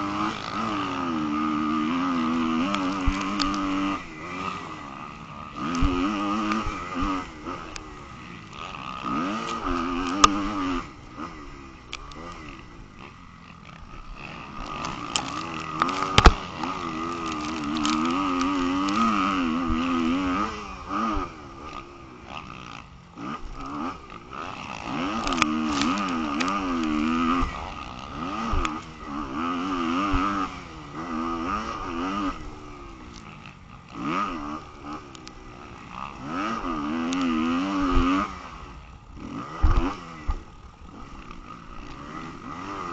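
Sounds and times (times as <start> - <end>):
motorbike engine revving: 0.0 - 42.9.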